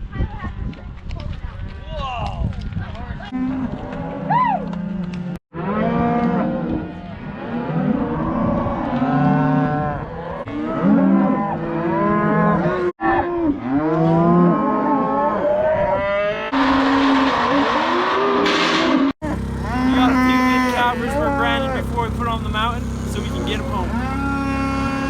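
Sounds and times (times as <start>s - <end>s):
cattle mooing: 3.3s - 18.6s, 19.2s - 25.0s.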